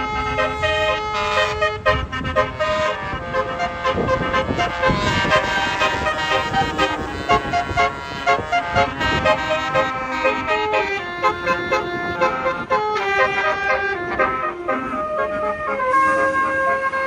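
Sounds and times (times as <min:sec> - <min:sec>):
bus horn playing a tune: 0:00.0 - 0:17.0.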